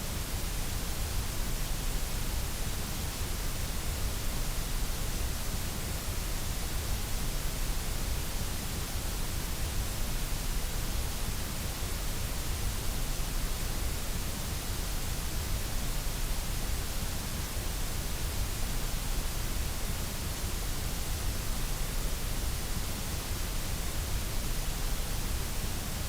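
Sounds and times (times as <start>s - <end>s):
white noise hiss: 0.0s - 26.0s.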